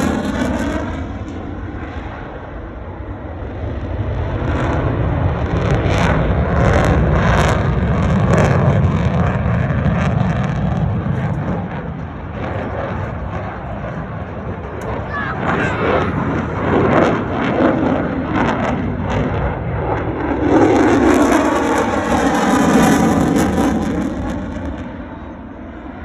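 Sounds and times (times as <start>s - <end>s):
fighter jet engine roar: 0.0s - 26.0s.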